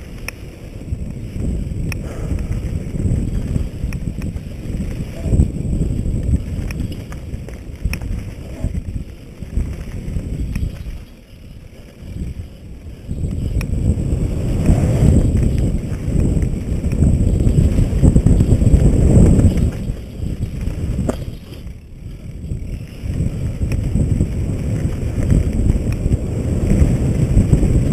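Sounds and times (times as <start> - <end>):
bike rattles and clicks: 0.0 - 27.9
bike tyres rumbling on dirt trail: 0.0 - 27.9
wind buffeting microphone: 0.0 - 27.9.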